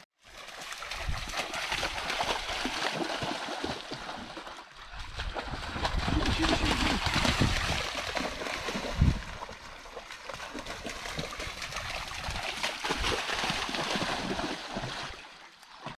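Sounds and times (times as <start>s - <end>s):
dog splashing through water: 0.2s - 16.0s.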